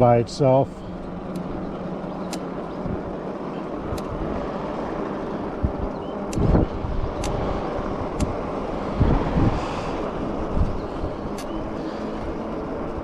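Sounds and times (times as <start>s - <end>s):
tyres and wind rushing: 0.0s - 13.0s
wind buffeting microphone: 0.0s - 13.0s.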